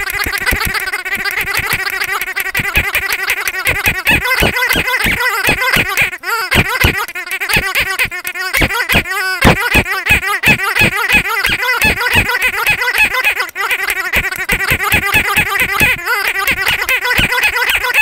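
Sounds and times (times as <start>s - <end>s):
squeaky dog toy squeezed: 0.0s - 18.0s.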